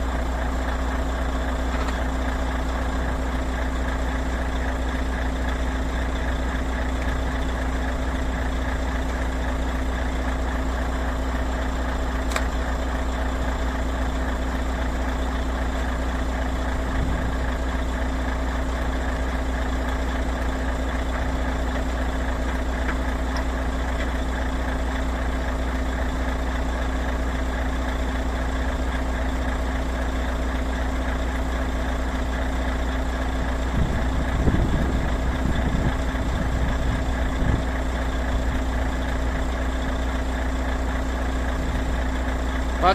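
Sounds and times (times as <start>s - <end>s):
truck diesel engine idling: 0.0s - 42.9s.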